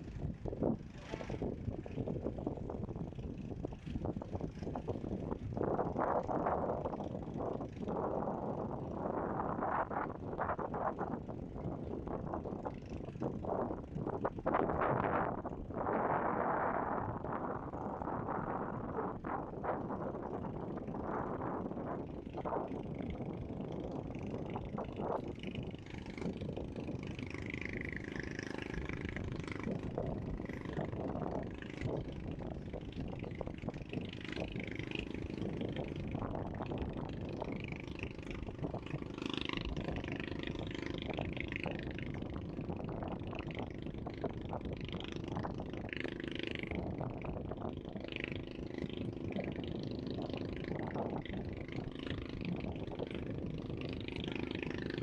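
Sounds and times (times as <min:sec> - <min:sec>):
low seaside rumble: 0:00.0 - 0:55.0.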